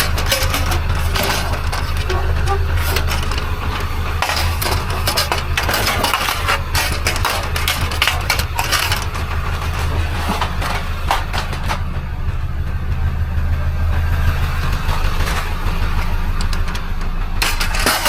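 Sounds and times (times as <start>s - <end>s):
hard objects clattering: 0.0s - 12.2s, 14.6s - 18.0s
vehicle engine idling: 0.0s - 18.0s.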